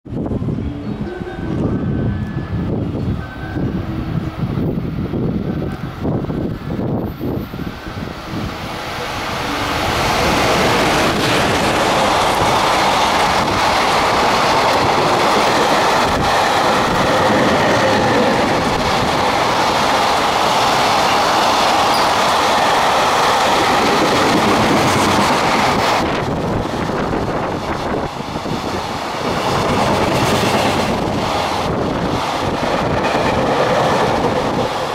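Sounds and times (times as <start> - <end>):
electric locomotive passing: 0.1 - 34.9.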